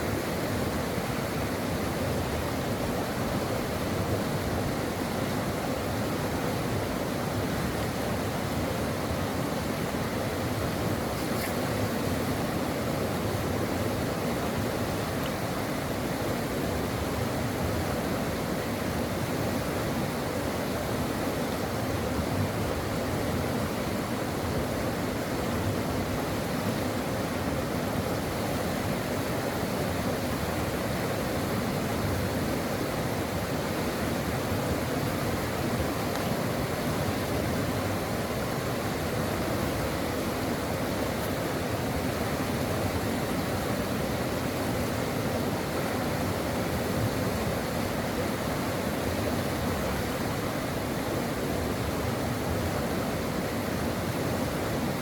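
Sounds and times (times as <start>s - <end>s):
brook water flowing: 0.0s - 55.0s.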